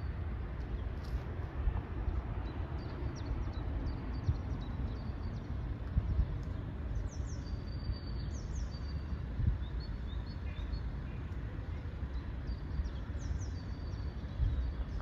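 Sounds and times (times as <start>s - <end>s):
low outdoor rumble: 0.0s - 15.0s
small birds chirping: 2.0s - 15.0s.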